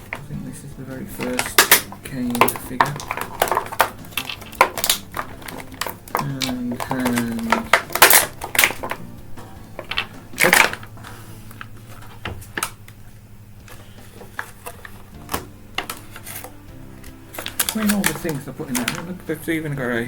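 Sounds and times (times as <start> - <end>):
plastic packaging crackling: 0.0 - 20.0.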